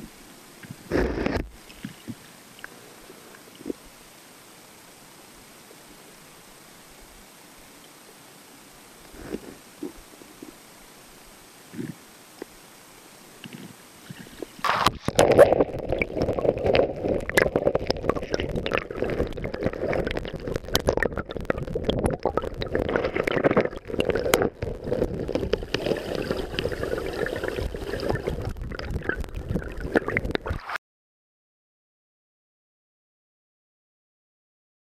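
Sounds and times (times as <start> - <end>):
muffled underwater stream rushing: 0.0 - 30.8.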